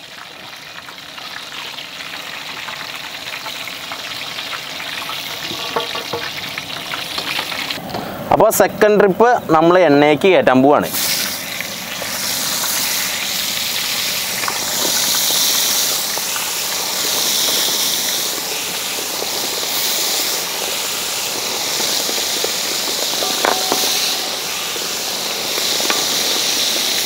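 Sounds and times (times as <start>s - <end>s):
chicken deep-frying in oil: 0.0s - 7.8s, 10.7s - 27.0s.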